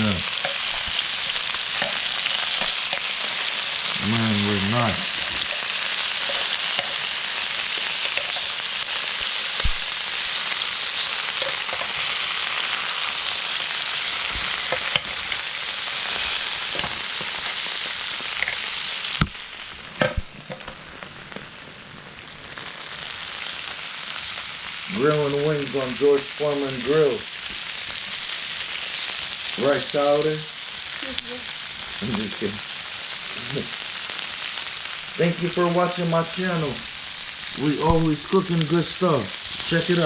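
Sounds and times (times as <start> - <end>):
chicken wings sizzling on a grill: 0.0 - 40.0.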